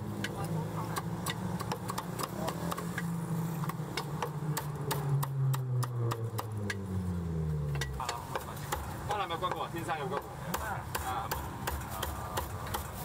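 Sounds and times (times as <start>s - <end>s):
cleaver chopping on wooden board: 0.2s - 6.8s, 7.7s - 13.0s.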